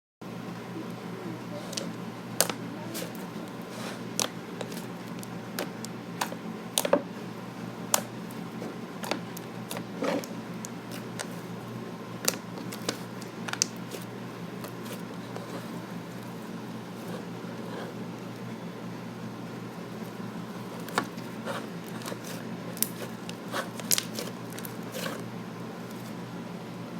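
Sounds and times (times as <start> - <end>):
steady low hum: 0.2 - 26.9
slime squelching: 1.4 - 18.4, 19.7 - 26.2.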